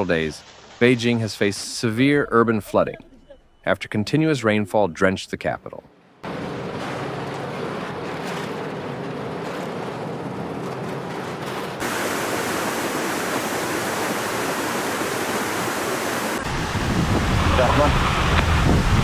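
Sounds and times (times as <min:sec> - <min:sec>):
rushing water: 0:00.0 - 0:02.6, 0:06.2 - 0:19.0.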